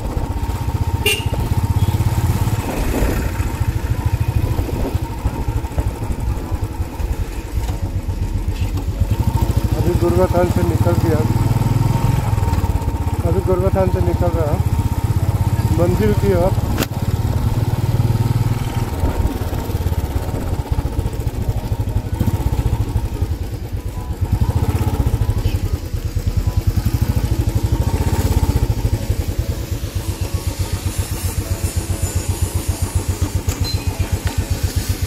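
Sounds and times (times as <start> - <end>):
motorcycle engine at low revs: 0.0 - 35.0.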